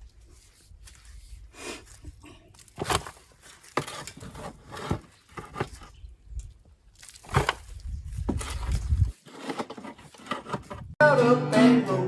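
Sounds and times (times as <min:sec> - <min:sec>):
knocks and scrapes in soil: 0:00.0 - 0:11.0.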